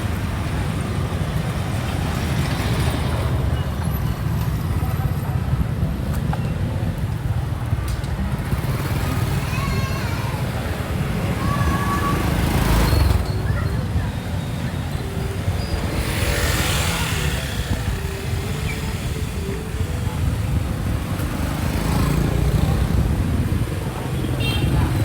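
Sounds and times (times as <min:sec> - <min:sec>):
motorbike engines rumbling: 0:00.0 - 0:25.0.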